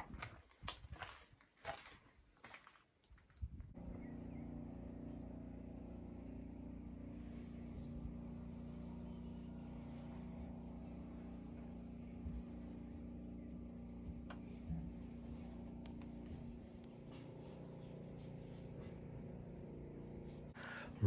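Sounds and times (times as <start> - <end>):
engine running steadily: 3.8 - 21.0.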